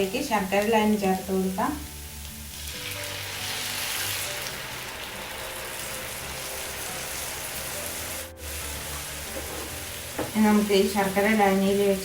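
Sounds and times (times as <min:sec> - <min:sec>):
syrup sizzling in a hot pan: 0:00.0 - 0:12.0.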